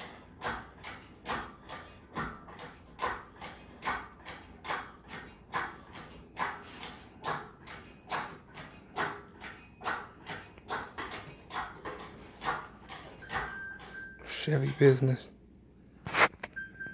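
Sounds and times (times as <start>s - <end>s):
rhythmic hoist strokes: 0.0s - 15.2s.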